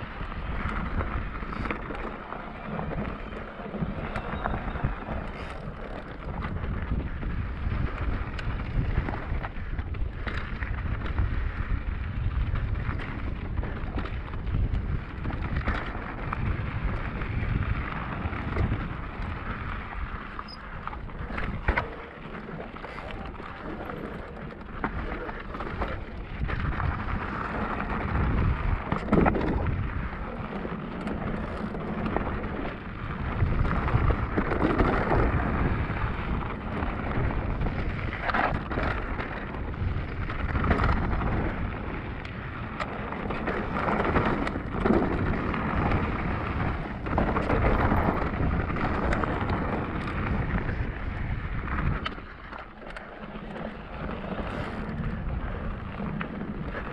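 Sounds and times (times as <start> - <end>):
bike clicks and rattles: 0.0 - 56.9
tyres rolling over dirt and stones: 0.0 - 56.9
wind rumbling on microphone: 0.0 - 56.9.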